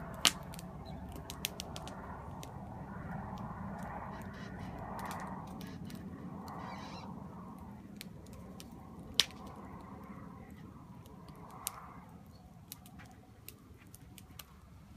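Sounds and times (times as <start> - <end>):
campfire crackling and popping: 0.0 - 14.9.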